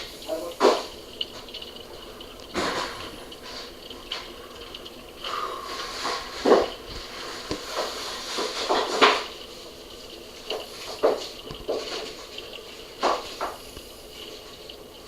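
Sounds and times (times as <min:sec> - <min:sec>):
heavy raindrops splashing: 0:00.0 - 0:15.0
steady rain falling: 0:00.0 - 0:15.0.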